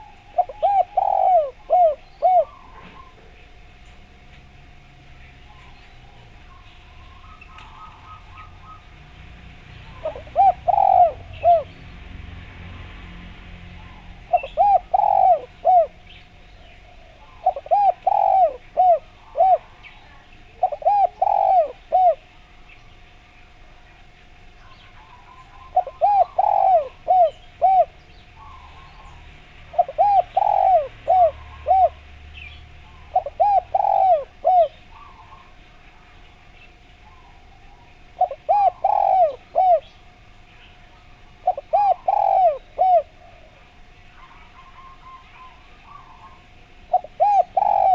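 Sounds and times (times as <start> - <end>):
dove cooing: 0.0 - 12.0, 13.7 - 47.9
small birds chirping: 0.0 - 47.9.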